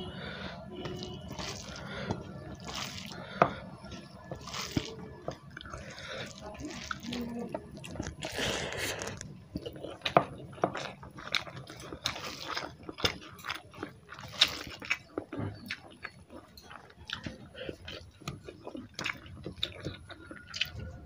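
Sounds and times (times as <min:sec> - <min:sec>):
wet squishing of food by hand: 0:00.0 - 0:21.0
chewing and lip smacks: 0:00.8 - 0:21.0.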